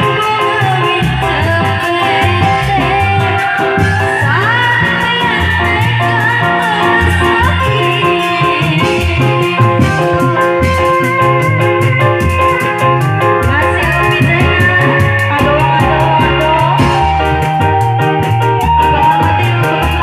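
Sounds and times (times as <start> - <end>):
woman singing: 0.0 - 17.5, 18.6 - 20.0
instrumental accompaniment with beat: 0.0 - 20.0.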